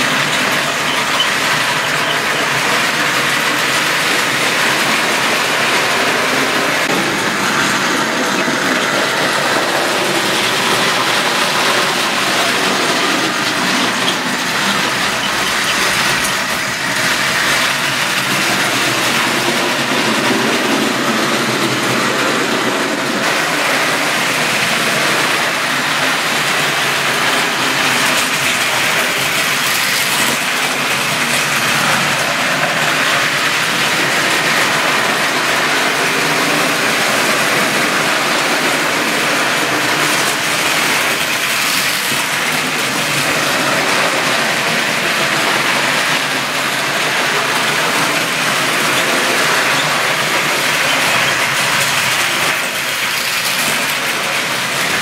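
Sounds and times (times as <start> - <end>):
model trains running on track: 0.0 - 55.0.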